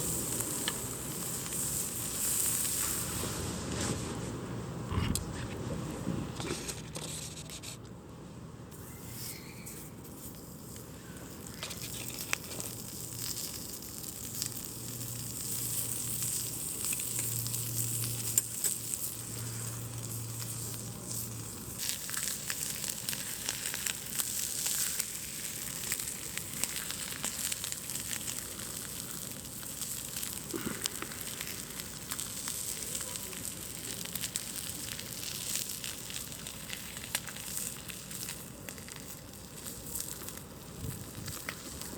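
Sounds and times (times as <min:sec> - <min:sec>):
campfire crackling: 0:00.0 - 0:03.4, 0:08.8 - 0:41.9.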